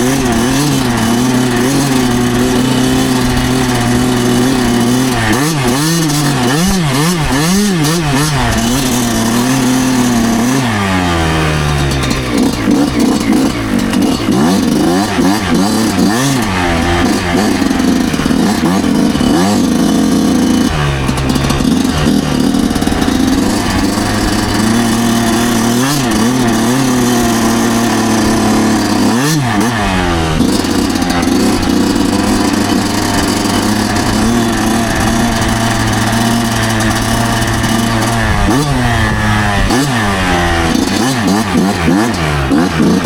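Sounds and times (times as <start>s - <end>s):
two-stroke motorcycle engine running: 0.0s - 43.0s.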